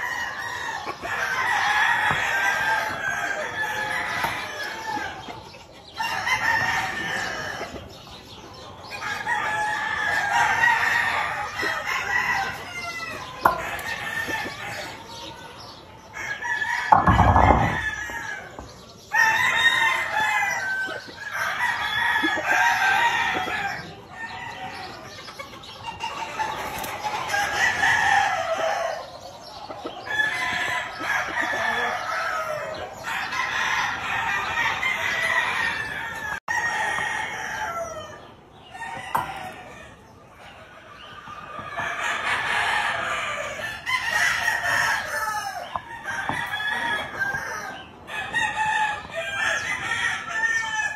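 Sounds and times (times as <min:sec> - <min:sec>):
roosters crowing: 0:00.0 - 0:50.9.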